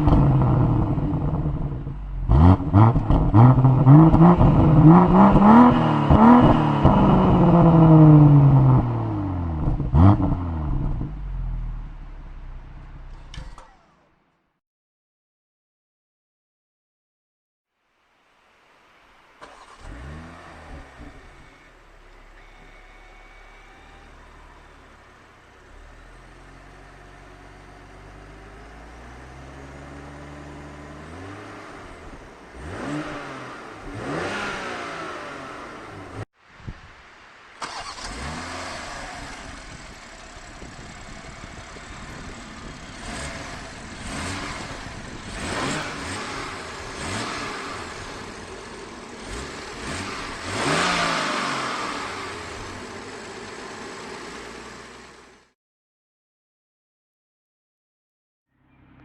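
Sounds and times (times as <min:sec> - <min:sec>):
car engine idling and revving: 0:00.0 - 0:14.2, 0:19.4 - 0:36.3, 0:37.7 - 0:55.6.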